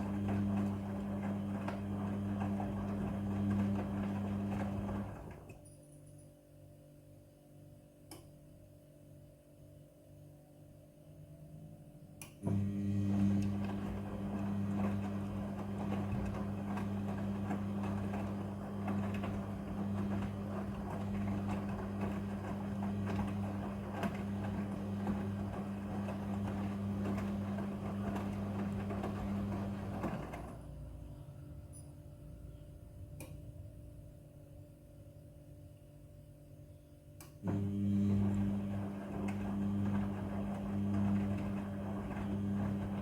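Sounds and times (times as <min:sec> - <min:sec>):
washing machine humming and churning: 0:00.0 - 0:05.6, 0:11.0 - 0:43.0.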